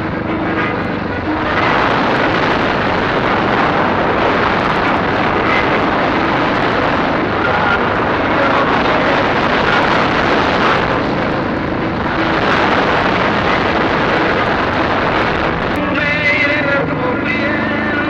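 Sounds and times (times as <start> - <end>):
dirt bike engine running: 0.0 - 18.0
wind noise on microphone: 0.0 - 18.0.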